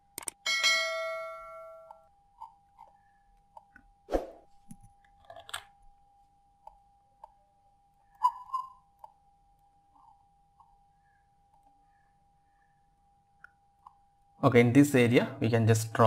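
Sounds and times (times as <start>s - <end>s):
faint steady tone: 0.0s - 15.5s.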